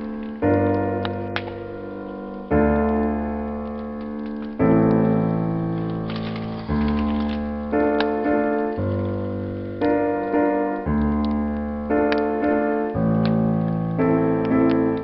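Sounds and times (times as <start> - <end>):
slow gentle piano piece: 0.0 - 15.0
wood fire crackling: 0.0 - 15.0.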